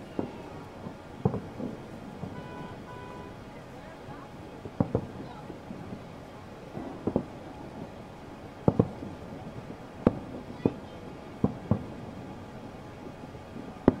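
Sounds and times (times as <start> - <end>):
distant firework bangs: 0.0 - 14.0
steady background hum: 0.0 - 14.0.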